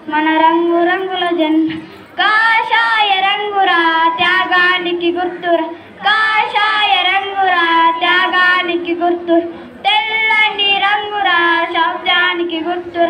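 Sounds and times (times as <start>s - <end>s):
girls singing into a microphone: 0.0s - 13.0s.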